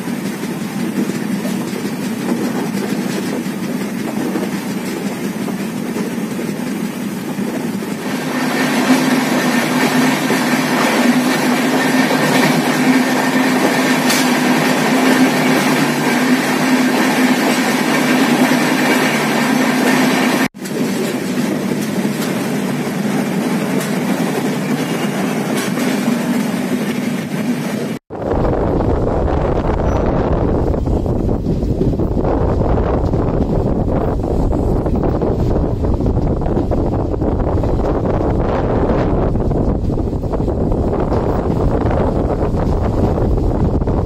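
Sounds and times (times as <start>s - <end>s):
freight wagons passing: 0.0s - 44.0s
train wheels rumbling on rails: 0.0s - 44.0s
wind buffeting microphone: 0.0s - 44.0s.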